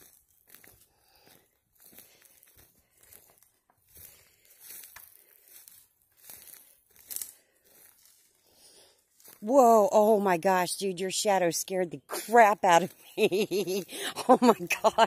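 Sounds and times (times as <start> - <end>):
footsteps crunching dry leaves: 0.0 - 10.3, 12.8 - 15.0.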